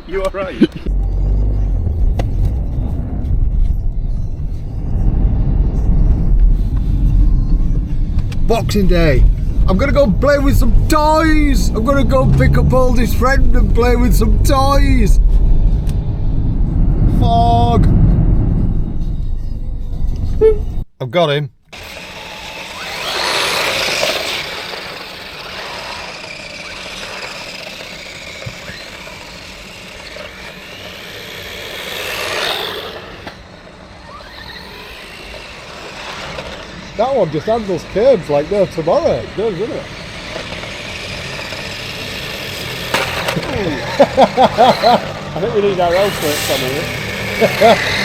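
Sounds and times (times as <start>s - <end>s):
vehicle running noise: 0.0s - 20.8s, 21.7s - 48.0s
car rumbling on the move: 0.0s - 20.9s, 21.8s - 48.0s.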